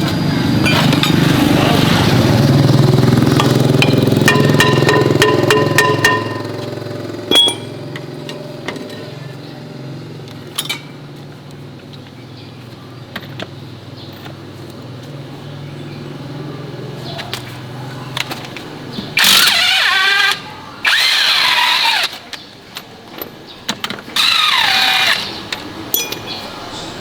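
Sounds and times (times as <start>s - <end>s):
farm vehicle engine humming: 0.0s - 23.5s.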